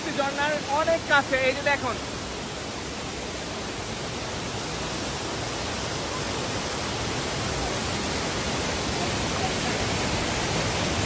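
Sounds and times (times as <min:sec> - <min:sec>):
waterfall over rocks: 0:00.0 - 0:11.0.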